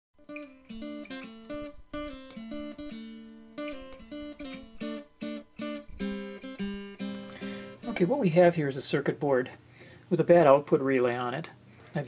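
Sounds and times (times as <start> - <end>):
guitar tune: 0.2 - 11.3.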